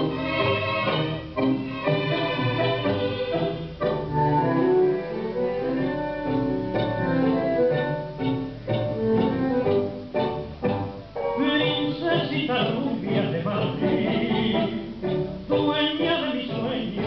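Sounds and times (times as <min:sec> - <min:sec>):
tango music over loudspeakers: 0:00.0 - 0:17.0.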